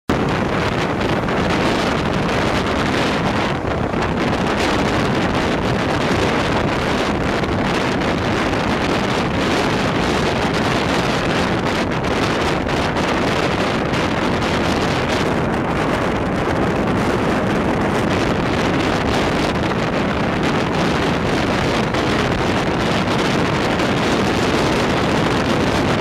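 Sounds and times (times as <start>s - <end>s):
low rumble: 0.1s - 26.0s
wind rushing over microphone: 0.1s - 26.0s.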